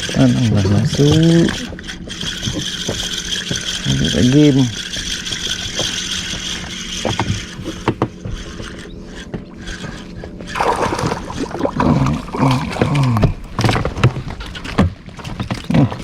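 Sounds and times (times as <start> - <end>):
splashing with knocks and clicks: 0.0 - 16.0
steady low hum: 0.0 - 16.0
water sloshing around a boat: 0.0 - 16.0.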